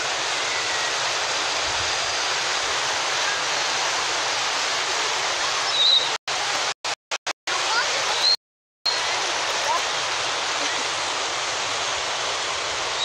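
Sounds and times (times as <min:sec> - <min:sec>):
floodwater rushing down canal: 0:00.0 - 0:13.0.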